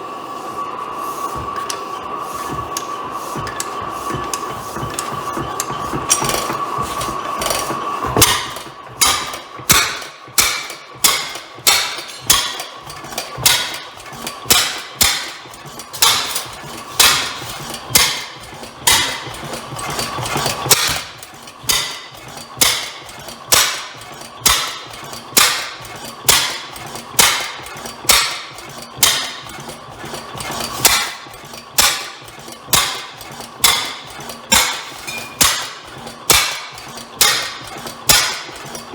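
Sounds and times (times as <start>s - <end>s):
engine turning over clacks: 1.4s - 38.9s.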